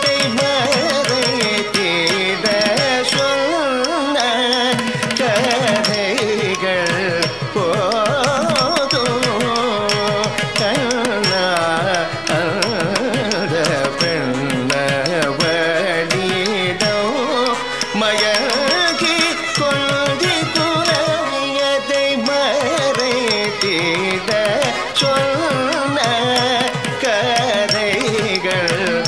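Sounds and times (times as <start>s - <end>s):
person singing ornamented melody: 0.0s - 29.0s.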